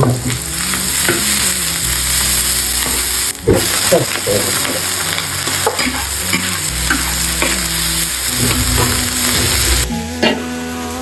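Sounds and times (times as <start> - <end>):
spatula scraping wok: 0.0 - 10.6
food sizzling in hot oil: 0.0 - 11.0.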